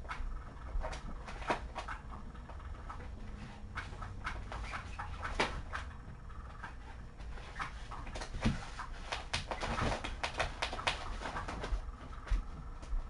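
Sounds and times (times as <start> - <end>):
kittens clicking and tapping: 0.0 - 13.0
steady low hum: 0.0 - 13.0.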